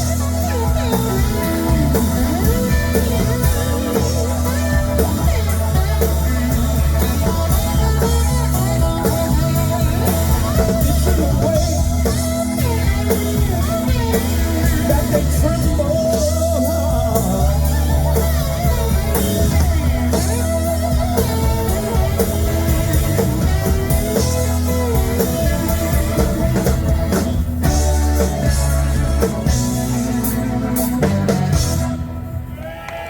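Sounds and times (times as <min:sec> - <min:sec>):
electric guitar: 0:00.0 - 0:33.0
live band music: 0:00.0 - 0:33.0.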